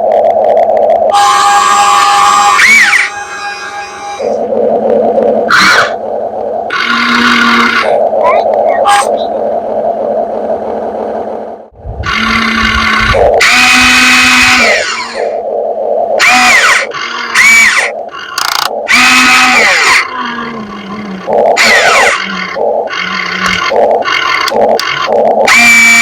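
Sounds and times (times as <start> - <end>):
electric motors whining: 1.1 - 11.3, 12.0 - 15.4, 16.2 - 26.0.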